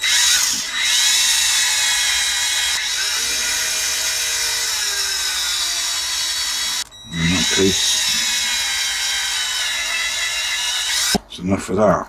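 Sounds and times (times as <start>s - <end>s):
power drill drilling metal: 0.0s - 11.2s.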